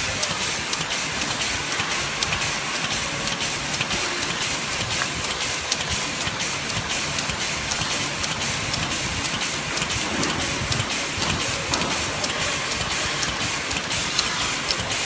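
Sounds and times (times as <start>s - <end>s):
rapid mechanical clicking: 0.0s - 15.0s
steady machine hiss: 0.0s - 15.0s.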